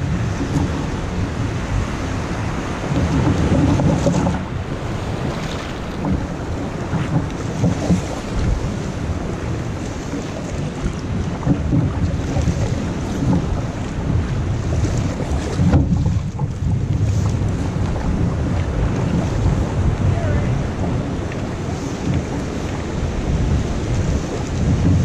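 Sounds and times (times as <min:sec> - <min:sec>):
surf: 0:00.0 - 0:25.0
water splashing against hull: 0:00.0 - 0:25.0
wind buffeting microphone: 0:00.0 - 0:25.0.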